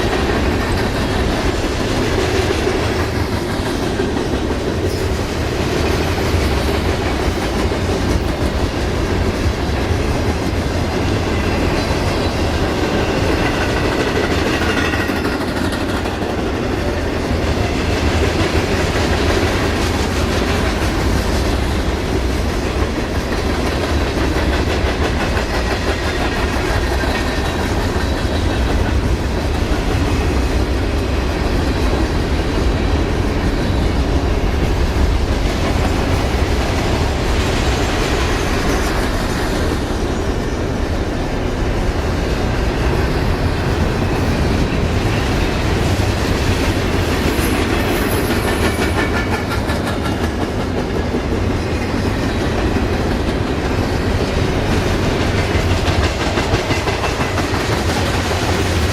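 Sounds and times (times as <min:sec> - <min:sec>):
train wheels clattering: 0:00.0 - 0:58.9.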